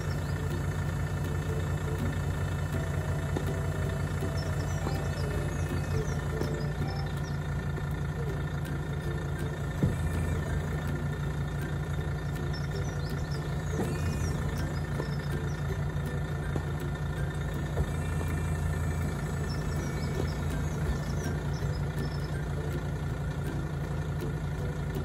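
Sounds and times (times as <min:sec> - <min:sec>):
hydraulic levelling system humming: 0:00.0 - 0:25.0.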